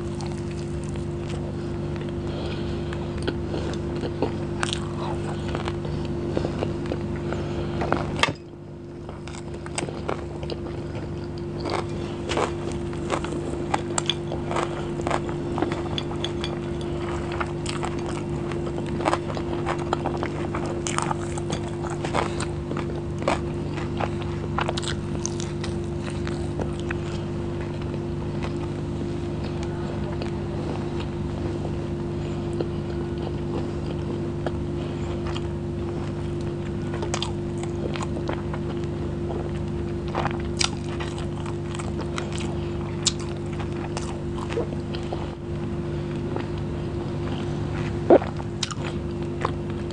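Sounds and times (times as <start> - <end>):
close chewing with mouth clicks: 0.0 - 49.9
steady low hum: 0.0 - 49.9.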